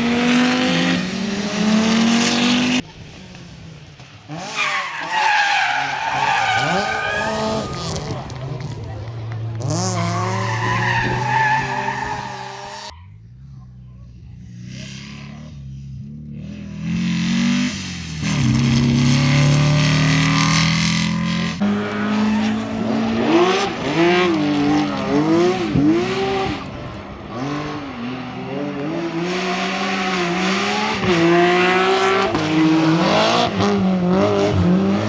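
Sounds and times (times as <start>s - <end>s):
tyre noise on road surface: 0.0s - 13.5s, 16.6s - 35.0s
rally car engines revving: 0.0s - 35.0s.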